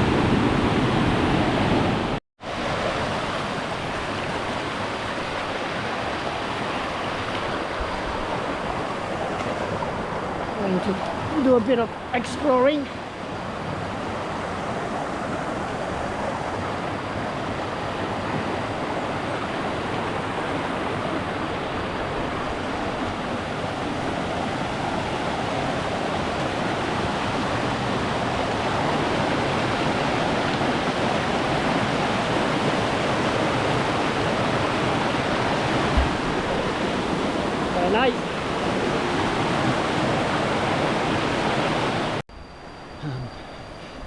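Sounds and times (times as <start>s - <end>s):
small waterfall rushing: 0.0s - 42.2s.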